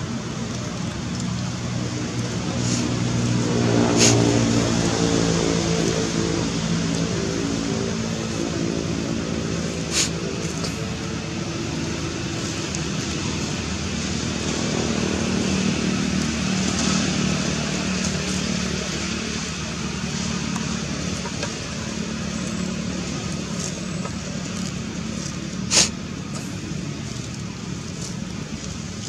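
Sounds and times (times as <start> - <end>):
low hum of vehicle engines: 0.0 - 29.0.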